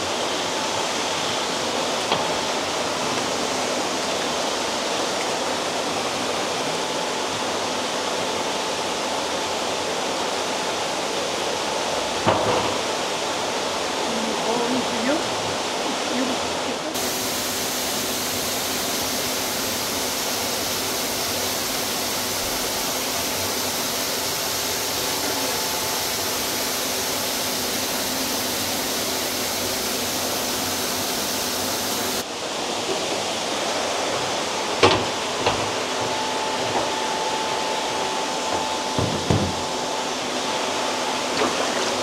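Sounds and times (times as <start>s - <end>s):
running water rushing: 0.0s - 42.0s.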